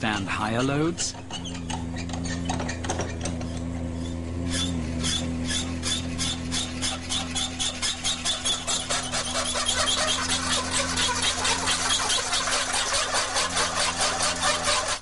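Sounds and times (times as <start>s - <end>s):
shaft grinding against seal: 0.0s - 15.0s
steady low hum: 0.0s - 15.0s.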